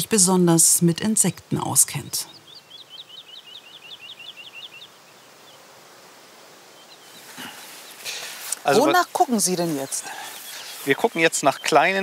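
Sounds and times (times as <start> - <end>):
faint open-air ambience: 0.0 - 12.0
songbird trilling: 0.8 - 5.6, 6.7 - 12.0.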